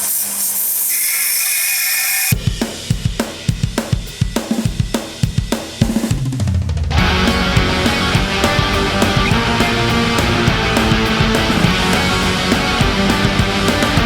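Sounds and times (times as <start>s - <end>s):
rock music with drums and bass: 2.4s - 14.0s.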